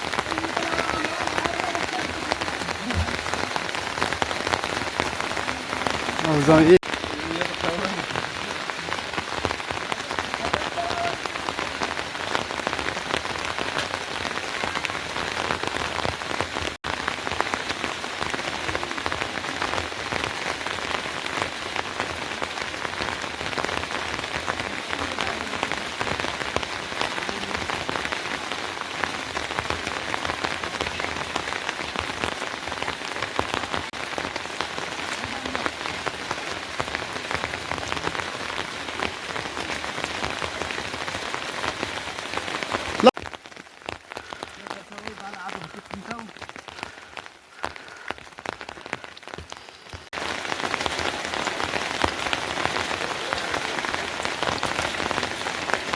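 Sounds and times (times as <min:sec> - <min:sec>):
steady rain patter: 0:00.0 - 0:55.9.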